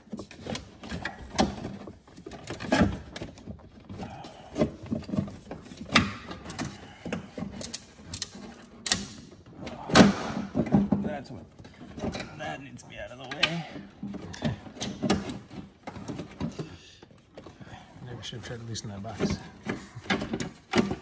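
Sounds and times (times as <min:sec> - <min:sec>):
engine parts clicking and rattling: 0:00.0 - 0:21.0.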